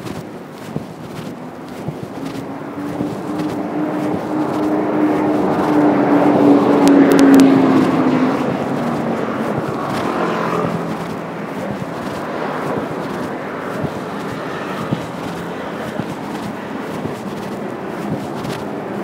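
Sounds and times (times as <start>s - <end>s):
motor vehicle passing: 0.0s - 19.0s.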